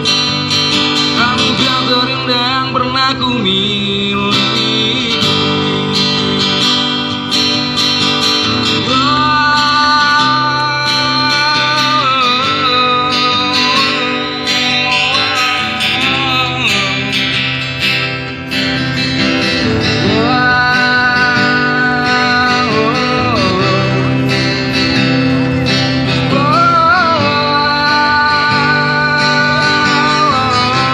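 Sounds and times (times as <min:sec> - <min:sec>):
acoustic guitar through loudspeaker: 0:00.0 - 0:30.9.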